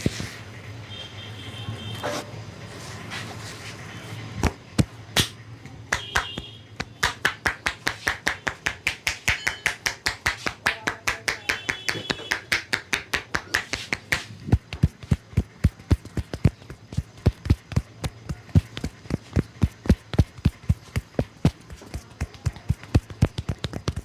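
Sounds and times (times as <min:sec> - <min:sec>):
hands striking head rhythmically: 0:04.5 - 0:24.0.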